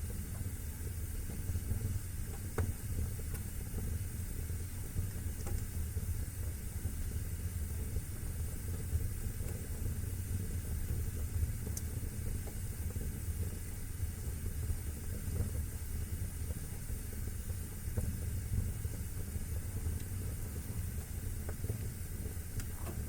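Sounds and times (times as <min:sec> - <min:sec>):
fire crackle: 0:00.0 - 0:23.0
wood fire roaring and hissing: 0:00.0 - 0:23.0.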